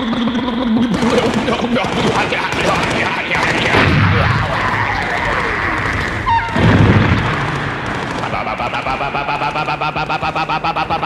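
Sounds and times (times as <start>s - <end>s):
combat noise: 0.0s - 11.0s
rapid even pulsing: 0.8s - 11.0s
heavy blast: 0.9s - 11.0s.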